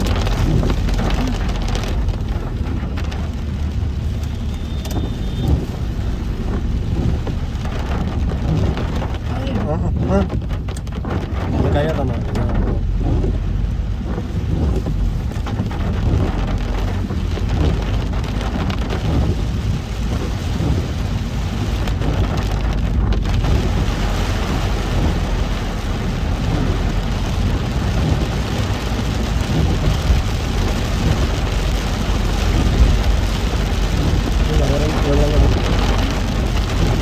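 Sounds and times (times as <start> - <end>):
car rumbling on road: 0.0 - 37.0
heavy rain on a car: 0.0 - 37.0.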